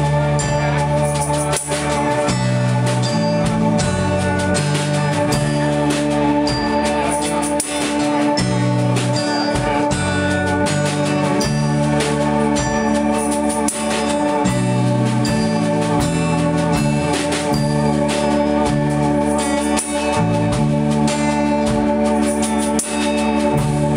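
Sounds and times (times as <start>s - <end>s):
drum kit: 0.0s - 23.9s
electric bass: 0.0s - 23.9s
strummed acoustic guitar: 0.0s - 23.9s.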